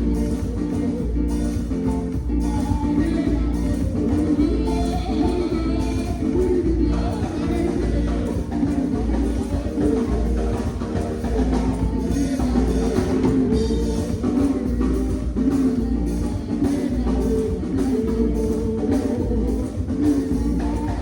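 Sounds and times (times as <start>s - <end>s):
band music: 0.0s - 21.0s
drum kit beat: 0.0s - 21.0s.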